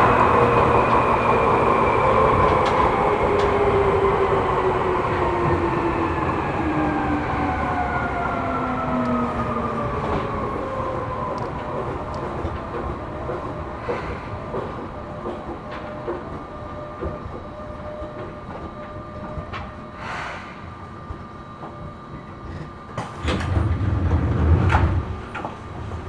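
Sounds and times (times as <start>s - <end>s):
train motor whine: 0.0s - 26.0s
wheels rumbling on rail: 0.0s - 26.0s.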